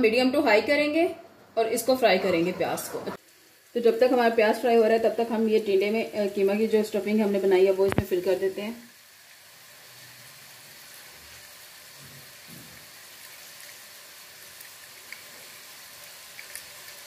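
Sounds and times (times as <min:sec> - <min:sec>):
onions sizzling in oil: 0:03.2 - 0:17.0.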